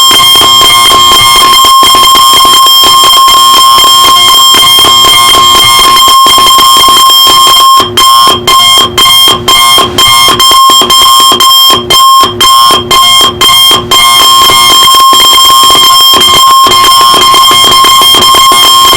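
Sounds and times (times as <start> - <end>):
electronic alarm clock: 0.0 - 18.9.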